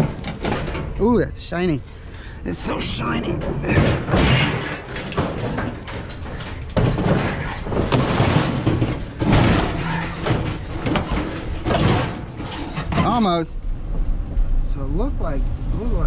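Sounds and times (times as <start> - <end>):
junk being rummaged and dragged: 0.0 - 14.1.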